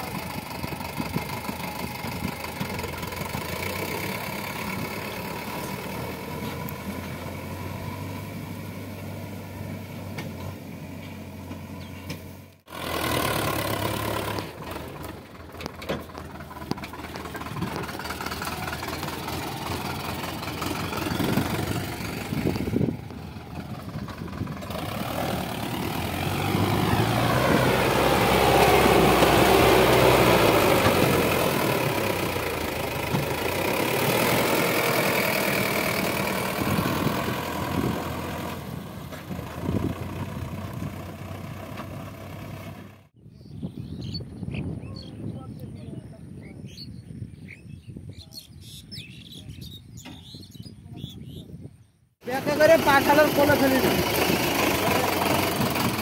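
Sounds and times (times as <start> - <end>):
tractor diesel engine running: 0.0 - 43.2, 52.2 - 56.0.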